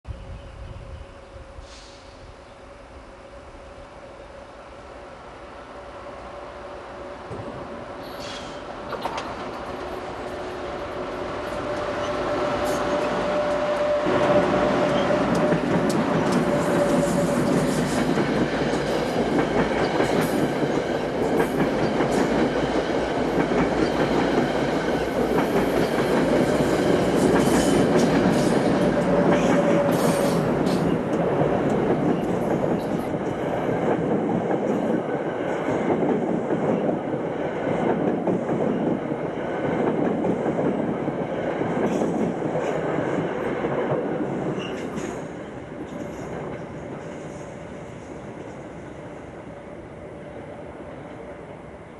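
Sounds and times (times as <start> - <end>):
train passing: 0.1 - 51.9.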